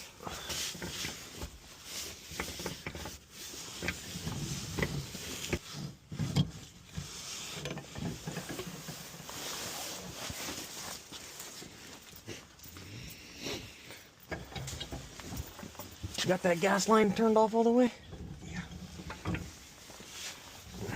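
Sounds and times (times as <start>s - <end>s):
hand tools scraping and knocking: 0.4s - 12.5s, 14.3s - 20.9s.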